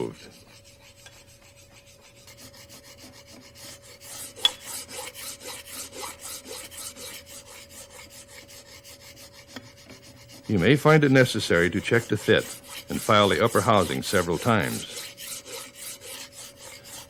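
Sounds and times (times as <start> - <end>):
hand file rasping on metal: 0.0 - 17.0.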